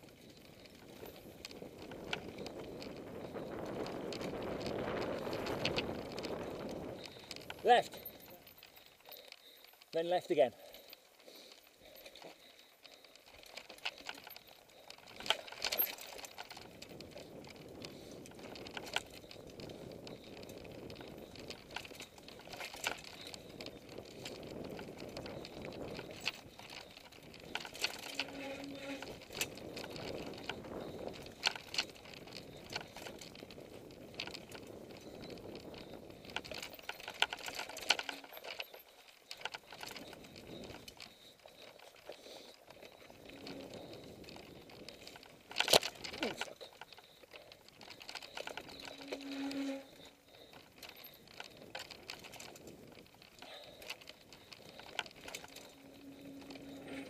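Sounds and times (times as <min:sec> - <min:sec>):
bike clacking and rattling: 0:00.0 - 0:57.0
bike tyres rolling on dirt: 0:00.0 - 0:57.0.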